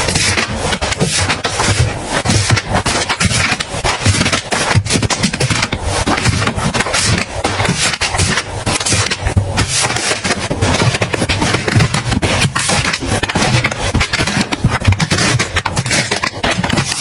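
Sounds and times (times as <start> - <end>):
packaging rustling and scraping: 0.0 - 17.0.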